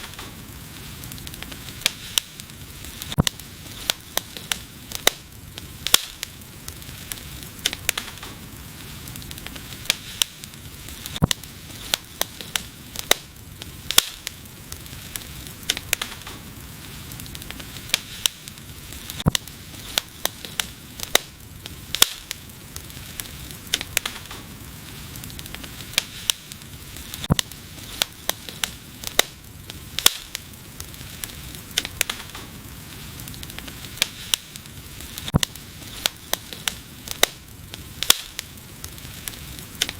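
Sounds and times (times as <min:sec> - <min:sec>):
sizzling hiss: 0:00.0 - 0:39.9
wood fire crackling: 0:00.0 - 0:39.9.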